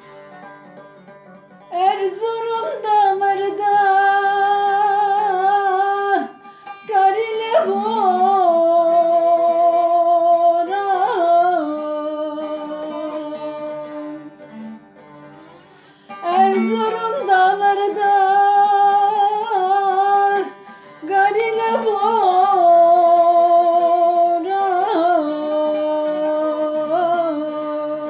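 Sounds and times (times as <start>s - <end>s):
plucked string accompaniment: 0.0s - 28.0s.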